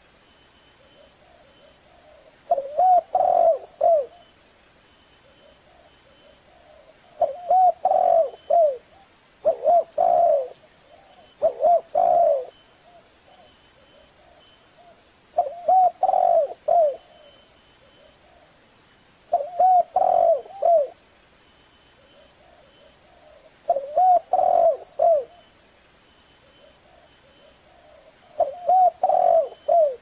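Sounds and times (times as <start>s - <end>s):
dove cooing: 0.8s - 4.3s, 5.2s - 18.5s, 19.3s - 21.0s, 22.0s - 25.5s, 26.4s - 30.0s.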